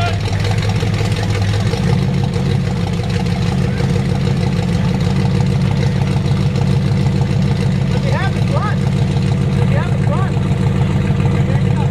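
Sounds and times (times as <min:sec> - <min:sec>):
truck engine idling loudly: 0:00.0 - 0:11.9.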